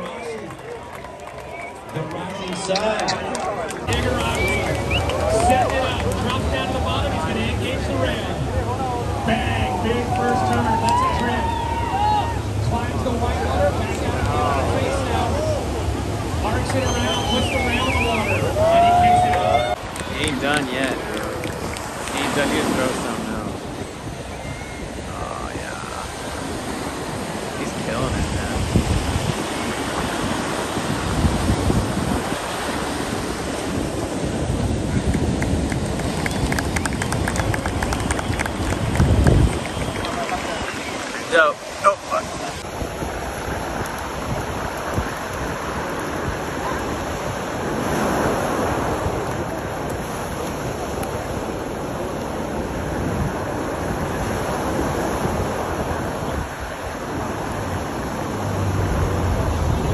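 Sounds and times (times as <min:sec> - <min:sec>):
ocean waves breaking: 0:00.0 - 0:59.9
wind buffeting microphone: 0:00.0 - 0:59.9.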